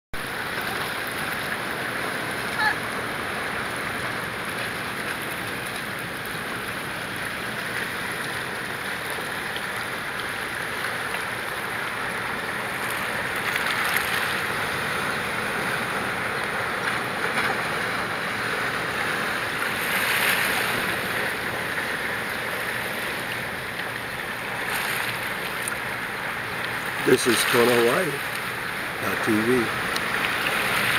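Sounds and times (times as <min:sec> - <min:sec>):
small waves washing: 0:00.2 - 0:30.9.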